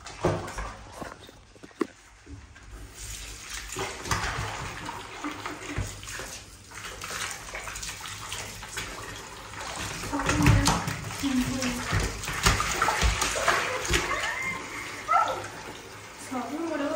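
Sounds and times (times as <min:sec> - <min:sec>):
tap water splashing into tub: 0:00.0 - 0:16.9.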